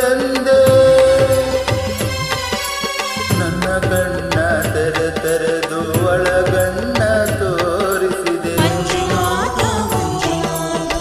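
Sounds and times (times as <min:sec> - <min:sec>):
man singing devotional song: 0:00.0 - 0:02.3, 0:03.3 - 0:11.0
karaoke backing track with percussion: 0:00.0 - 0:11.0.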